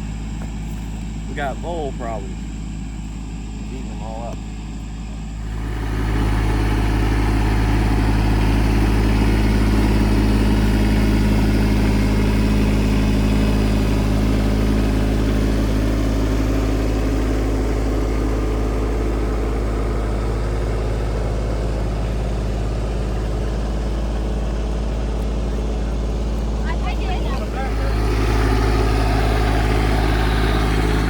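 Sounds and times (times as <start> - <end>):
tractor engine droning: 0.0 - 31.0.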